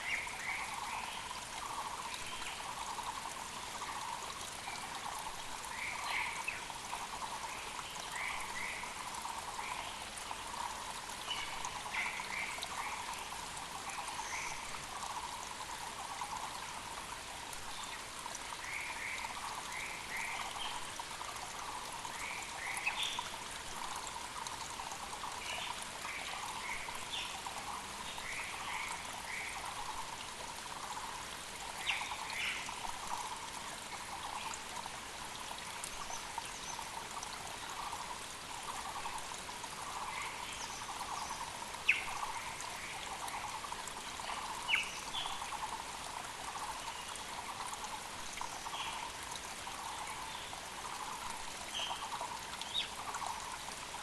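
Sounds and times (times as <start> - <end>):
mountain creek running: 0.0 - 54.0.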